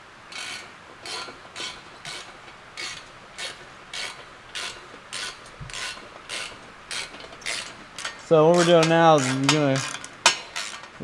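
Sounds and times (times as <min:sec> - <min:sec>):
ratchet wrench clicking: 0:00.3 - 0:11.0.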